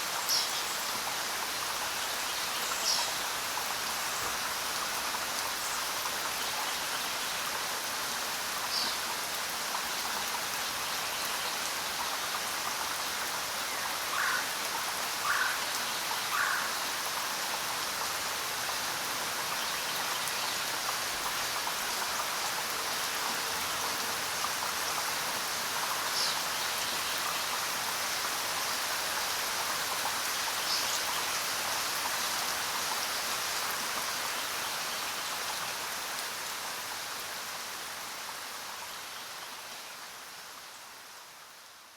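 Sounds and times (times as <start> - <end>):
steady rain in forest: 0.0 - 41.9.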